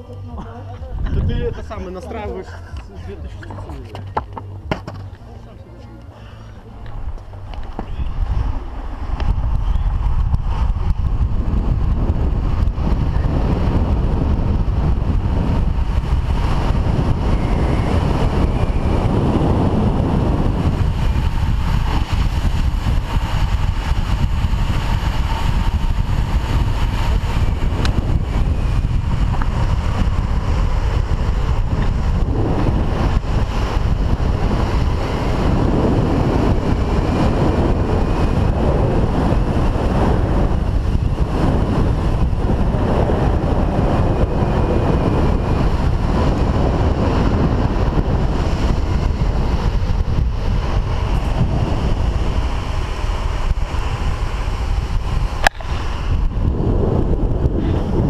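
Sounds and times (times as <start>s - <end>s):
wind on microphone: 0.0s - 58.0s
longboard wheels rolling on asphalt: 2.8s - 58.0s.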